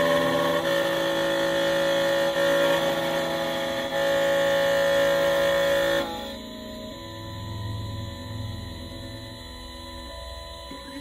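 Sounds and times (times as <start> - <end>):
key cutting machine whining: 0.0 - 11.0.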